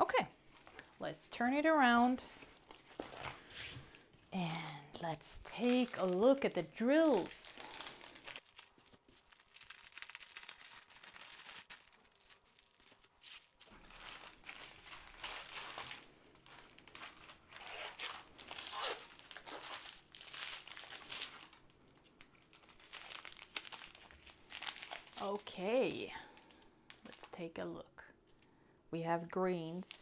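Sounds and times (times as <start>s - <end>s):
plastic packaging crinkling: 0.4s - 1.0s, 1.8s - 27.4s.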